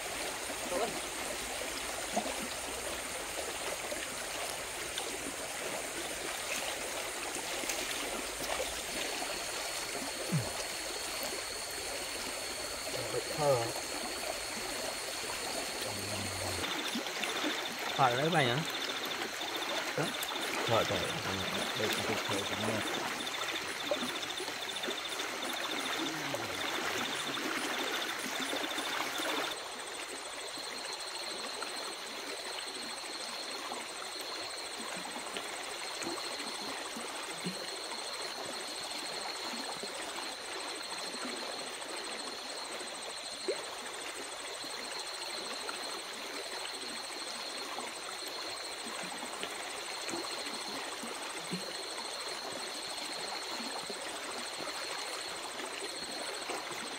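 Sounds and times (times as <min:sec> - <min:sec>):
running water rushing: 0:00.0 - 0:30.8, 0:31.4 - 0:56.9.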